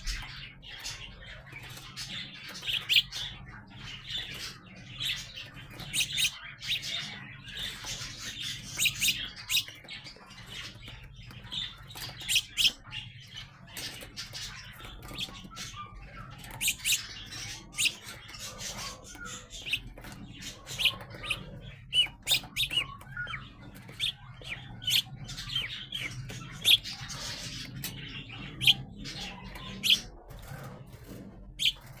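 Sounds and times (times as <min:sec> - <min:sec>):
young sparrows chirping: 0:00.0 - 0:32.0.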